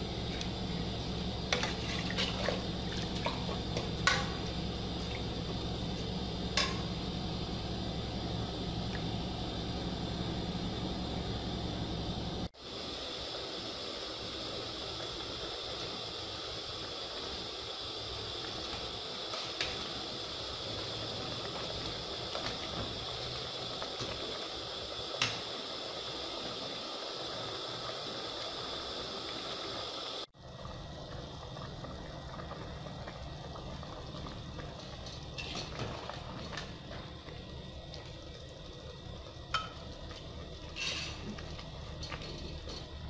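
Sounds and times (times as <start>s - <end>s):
stew simmering hiss: 0.0s - 43.0s.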